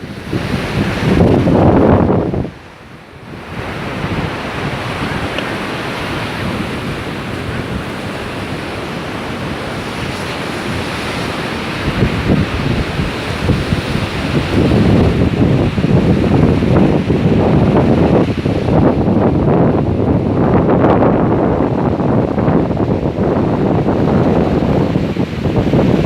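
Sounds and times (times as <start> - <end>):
sea surf breaking: 0.0 - 26.0
wind buffeting microphone: 0.0 - 26.0.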